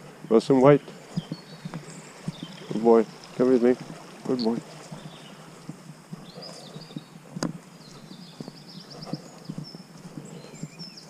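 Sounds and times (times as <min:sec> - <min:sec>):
birds chirping: 0:00.0 - 0:11.0
footsteps on dirt path: 0:00.8 - 0:11.0.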